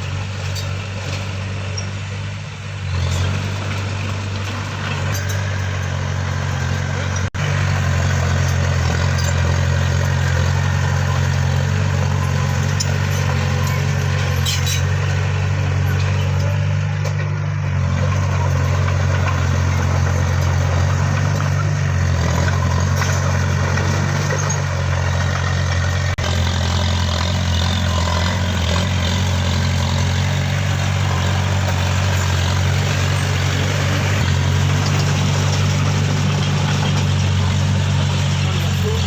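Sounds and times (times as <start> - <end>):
engine-like idling drone: 0.0 - 39.0.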